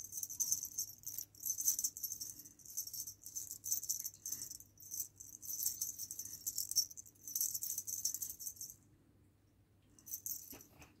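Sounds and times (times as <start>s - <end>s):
jingling rattle shaken: 0.0s - 8.8s, 10.1s - 10.6s.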